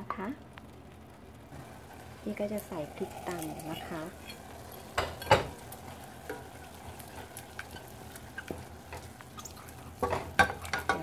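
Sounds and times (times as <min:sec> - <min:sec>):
meat sizzling in a saucepan: 0:01.5 - 0:11.0
wooden spoon stirring in a pot: 0:01.5 - 0:11.0.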